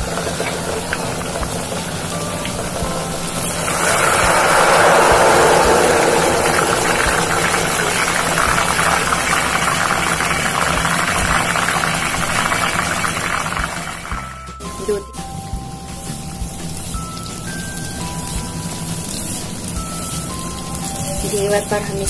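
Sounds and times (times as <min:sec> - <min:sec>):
batter sizzling in hot oil: 0:00.0 - 0:22.0.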